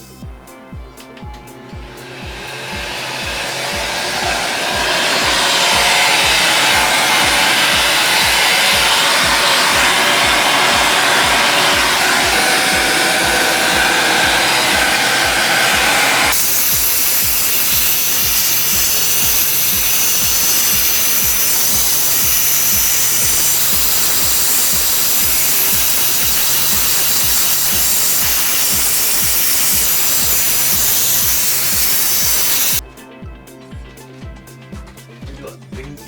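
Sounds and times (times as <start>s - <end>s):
vacuum cleaner running: 1.5s - 32.8s.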